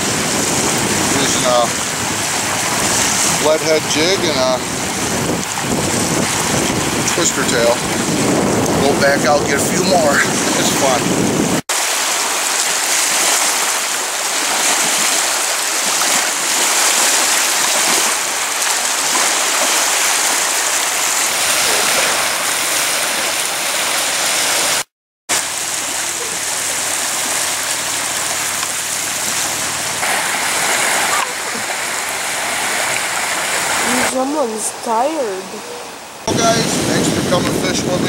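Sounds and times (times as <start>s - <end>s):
small waves washing onto beach: 0.0s - 35.3s.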